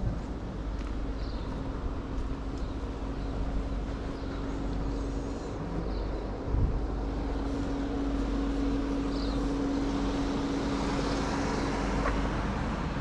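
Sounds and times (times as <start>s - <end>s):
low rumble of street noise: 0.0s - 13.0s
steady mechanical hum: 0.0s - 13.0s.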